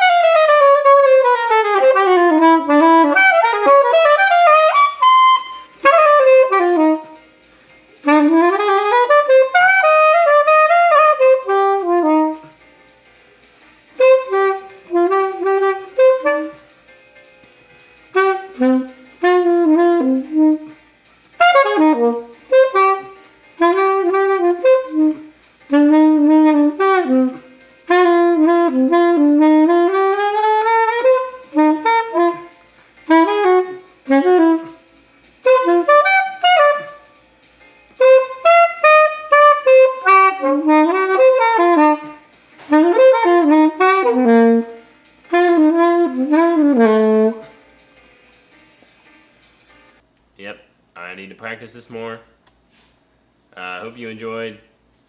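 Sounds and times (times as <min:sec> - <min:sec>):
slow saxophone melody: 0:00.0 - 0:12.7, 0:13.8 - 0:17.0, 0:17.9 - 0:37.3, 0:37.9 - 0:47.7.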